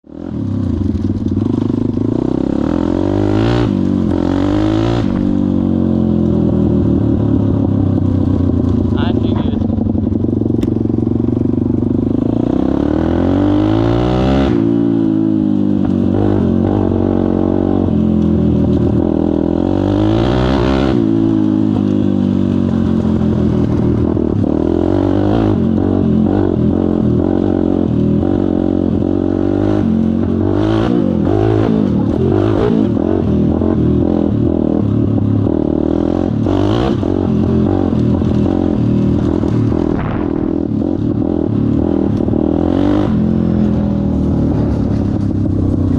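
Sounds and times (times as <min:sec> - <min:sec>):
pit bike engine revving: 0:00.1 - 0:45.9.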